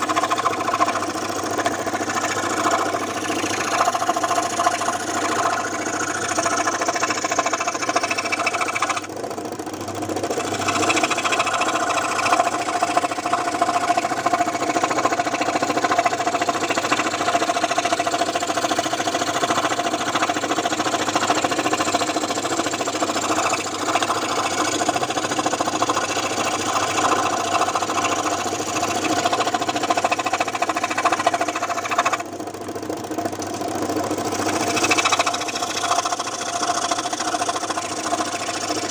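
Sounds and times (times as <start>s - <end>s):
scroll saw running: 0.0s - 38.9s.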